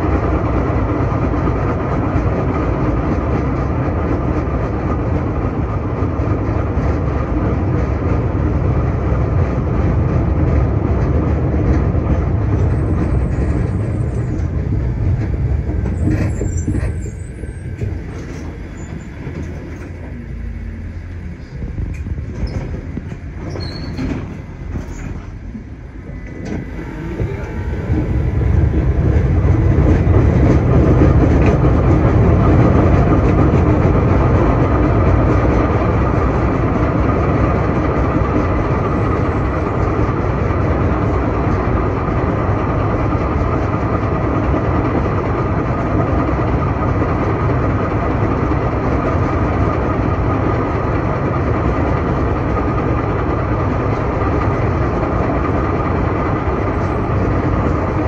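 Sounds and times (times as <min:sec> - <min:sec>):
tram rolling noise: 0:00.0 - 0:58.0.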